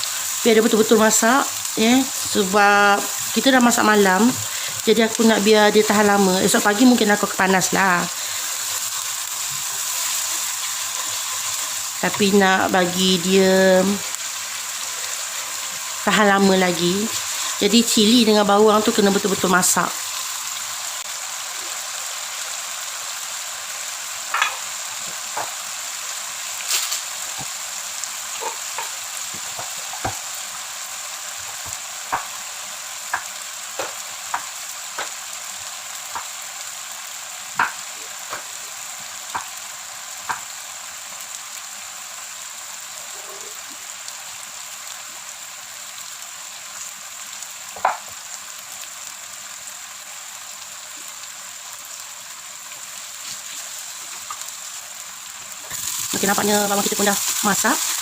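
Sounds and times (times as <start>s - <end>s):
frying in hot oil sizzle: 0.0s - 58.0s.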